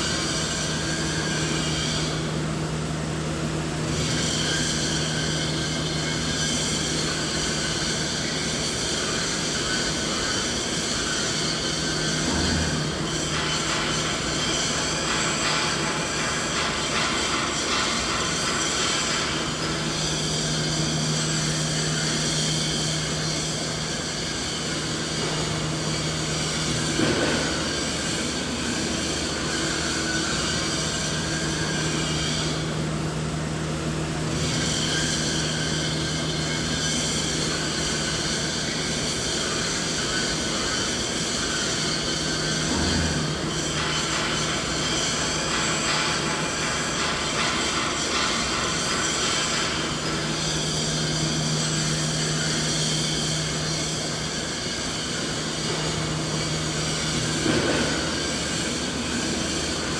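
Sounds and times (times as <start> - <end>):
mechanical drone with hiss: 0.0 - 59.9.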